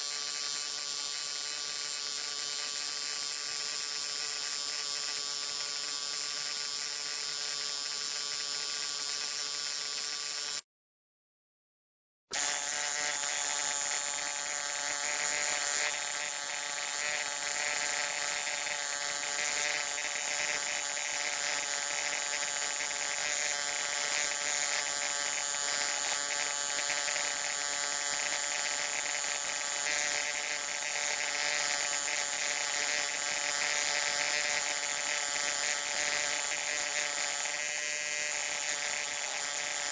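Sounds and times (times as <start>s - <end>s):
electric arc buzzing: 0.0s - 10.6s, 12.4s - 39.9s.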